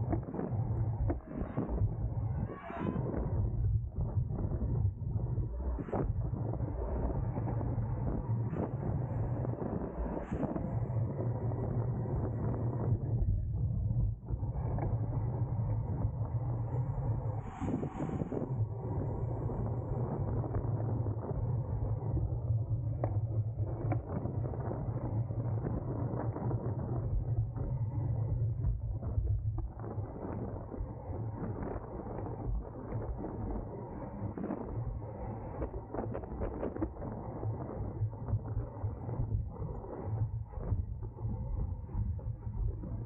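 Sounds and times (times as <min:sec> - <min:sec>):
wind rush: 0:00.0 - 0:40.1.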